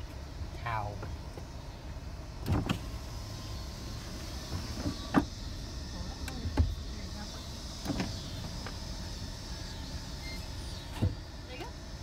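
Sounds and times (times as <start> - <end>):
van cabin rumble: 0.0 - 12.0.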